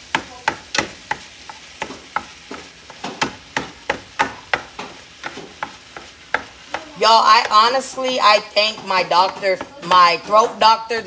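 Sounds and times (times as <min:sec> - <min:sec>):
spatula scraping a skillet: 0:00.0 - 0:10.8.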